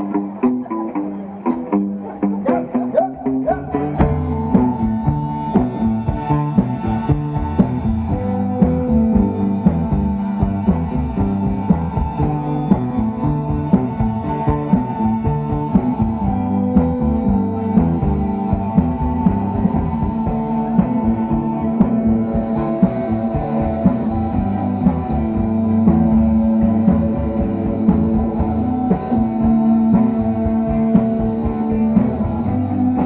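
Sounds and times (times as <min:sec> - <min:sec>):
bass guitar: 0:00.0 - 0:33.0
guitars: 0:00.0 - 0:33.0
drum kit beat: 0:01.4 - 0:33.0.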